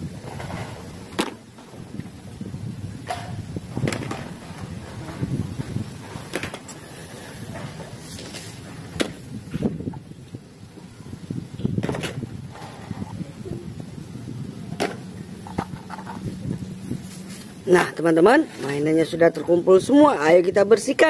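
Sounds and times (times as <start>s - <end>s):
low outdoor hum: 0.0s - 21.0s.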